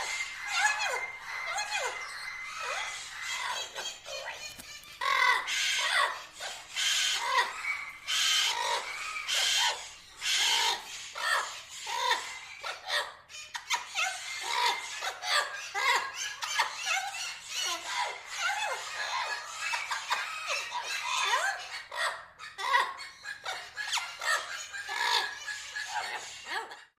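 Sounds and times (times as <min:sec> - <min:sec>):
parrots squawking and chattering: 0:00.0 - 0:27.0.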